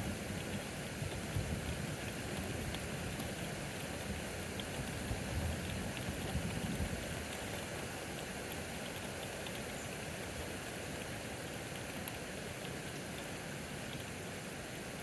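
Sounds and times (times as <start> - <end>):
rain pouring: 0.0 - 15.0
raindrops ticking: 0.0 - 15.0.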